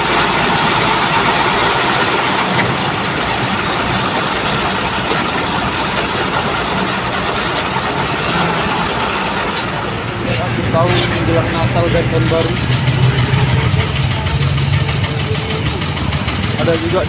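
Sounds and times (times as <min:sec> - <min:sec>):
road and traffic hiss: 0:00.0 - 0:17.0
vehicle engine idling: 0:00.0 - 0:17.0.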